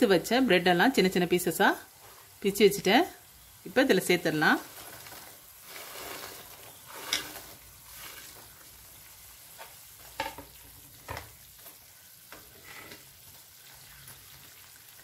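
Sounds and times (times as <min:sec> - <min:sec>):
syrup bubbling and sizzling: 0:01.0 - 0:15.0.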